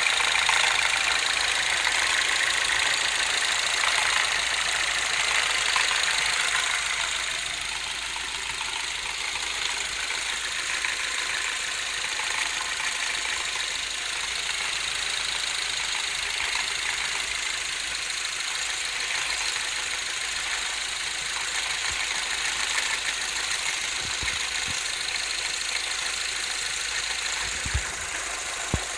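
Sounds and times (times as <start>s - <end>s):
car engine idling with clatter: 0.0s - 28.9s.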